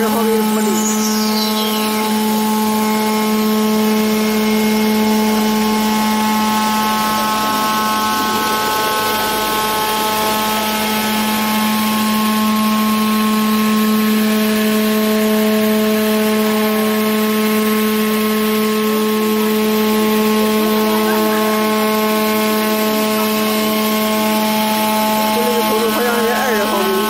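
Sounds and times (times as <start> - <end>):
milling machine motor whine: 0.0 - 27.0.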